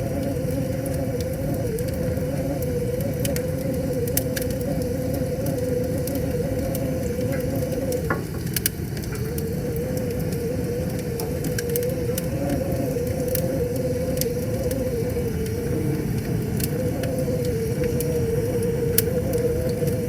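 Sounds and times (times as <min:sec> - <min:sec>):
wavering hum: 0:00.0 - 0:20.0
wood fire crackling: 0:00.0 - 0:20.0.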